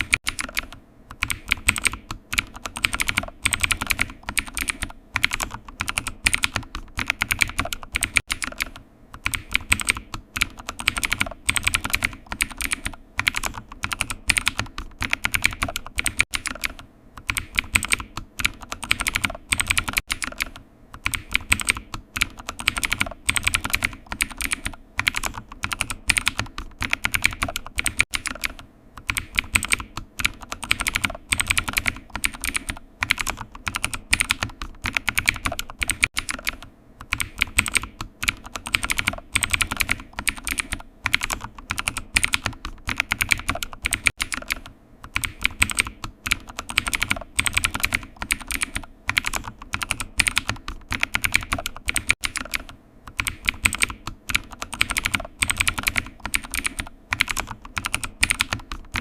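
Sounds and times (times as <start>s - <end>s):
computer keyboard typing: 0.0s - 59.0s.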